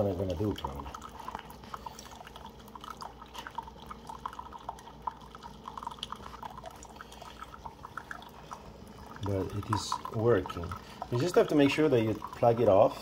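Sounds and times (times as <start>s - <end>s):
low steady hum: 0.0s - 13.0s
water splashing into mug: 0.0s - 13.0s.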